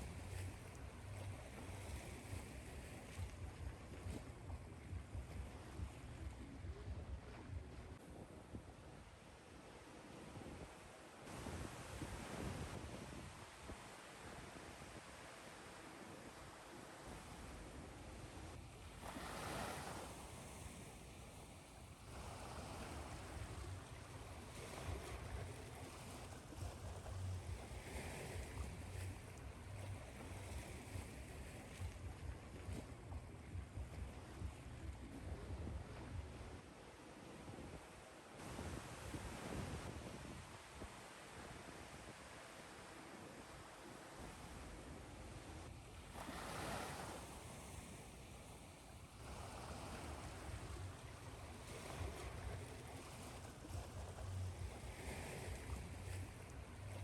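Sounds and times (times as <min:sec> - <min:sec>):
ocean waves washing ashore: 0:00.0 - 0:57.0.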